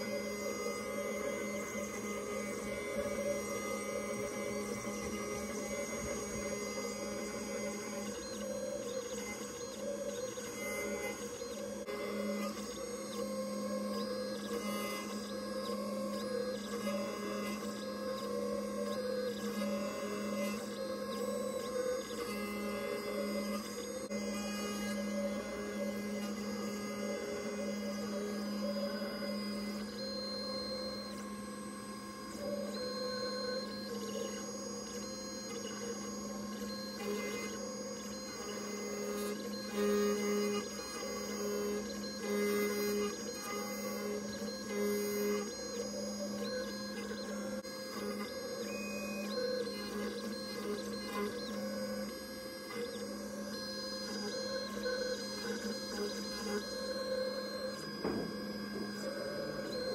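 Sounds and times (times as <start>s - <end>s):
high whine of motors: 0.0s - 59.9s
milling spindle hum: 0.0s - 59.9s.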